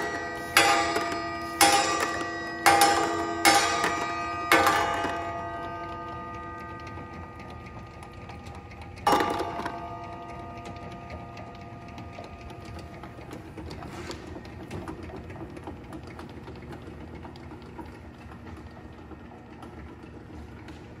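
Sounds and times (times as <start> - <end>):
labeling machine whirring and ticking: 0.0 - 20.8.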